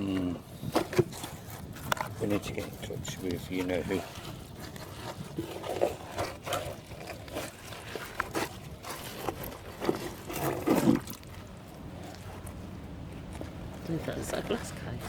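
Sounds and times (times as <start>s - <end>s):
wet objects knocking and scraping: 0.0s - 15.0s.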